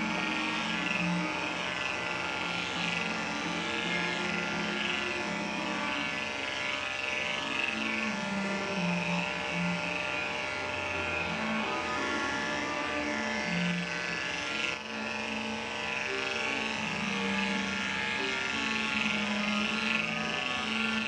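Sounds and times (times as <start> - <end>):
background music with slow bass: 0.0 - 21.0
electric dog clipper buzzing: 0.0 - 21.0.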